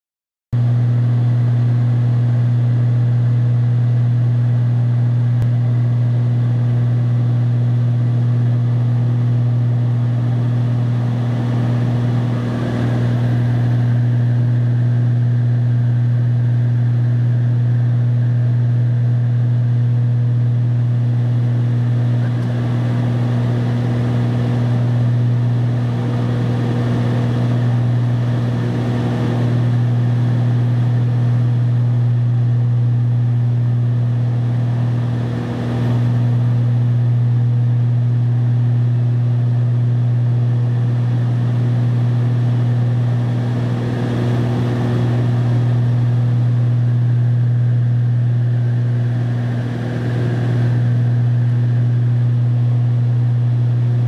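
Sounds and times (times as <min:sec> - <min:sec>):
airliner cabin engine drone: 0:00.6 - 0:54.0.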